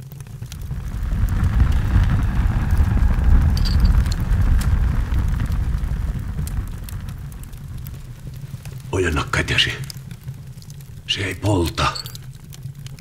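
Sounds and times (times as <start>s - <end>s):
fire crackling: 0.0s - 13.0s
fire rumbling: 0.0s - 13.0s.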